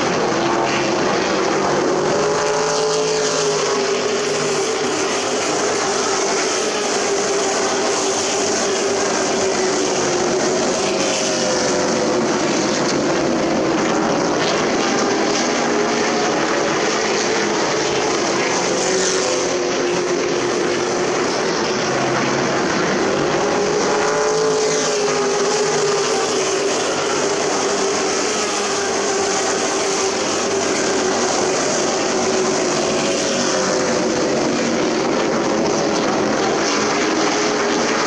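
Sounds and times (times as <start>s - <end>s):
race truck engines passing: 0.0s - 38.0s.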